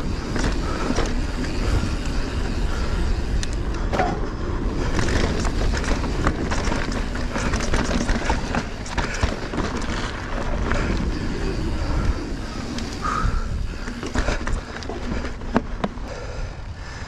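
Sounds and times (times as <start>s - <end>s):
bike rattling over bumps: 0.0s - 17.0s
bike tyres rumbling on dirt: 0.0s - 17.0s.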